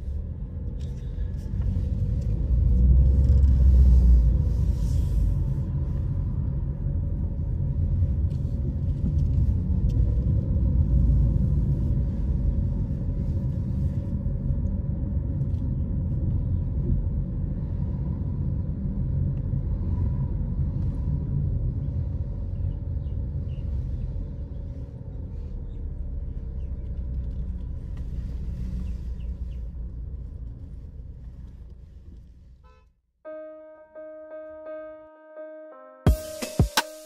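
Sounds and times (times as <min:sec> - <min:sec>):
car driving rumble: 0:00.0 - 0:32.8.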